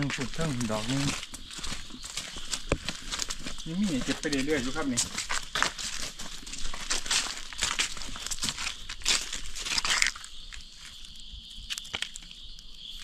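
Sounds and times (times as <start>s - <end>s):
dry leaves crunching: 0.0s - 12.3s.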